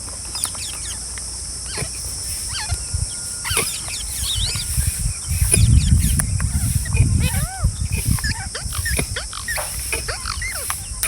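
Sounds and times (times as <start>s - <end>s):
parrots chirping: 0.0s - 11.0s.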